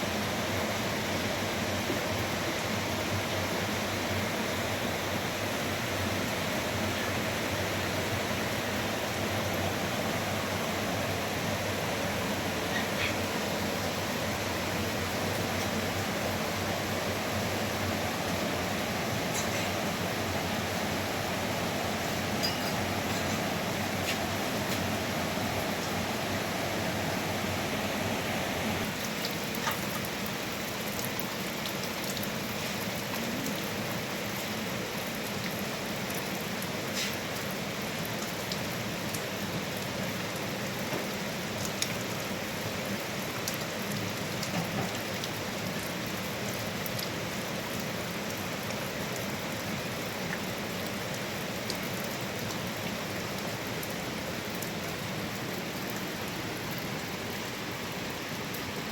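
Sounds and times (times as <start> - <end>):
hiss of water: 0.0 - 58.9.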